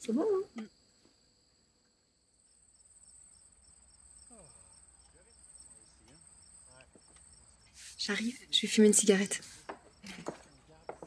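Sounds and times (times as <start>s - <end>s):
crickets trilling: 0.0s - 11.0s
quieter pulsing cricket chirp: 0.0s - 11.0s.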